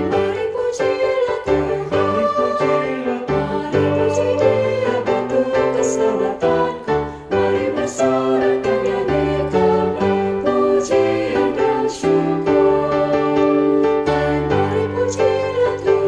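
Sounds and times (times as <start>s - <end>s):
choir singing a hymn: 0.0s - 16.0s
keyboard accompaniment: 0.0s - 16.0s.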